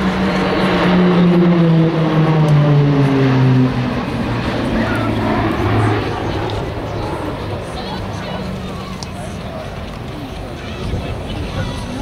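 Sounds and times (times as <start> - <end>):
aircraft engines flying past overhead: 0.0 - 12.0.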